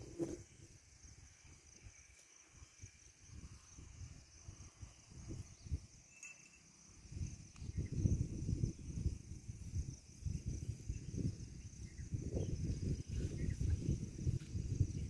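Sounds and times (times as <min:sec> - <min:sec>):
wind rumble on microphone: 0:00.0 - 0:06.1, 0:06.8 - 0:15.0
insects chirring: 0:00.0 - 0:15.0.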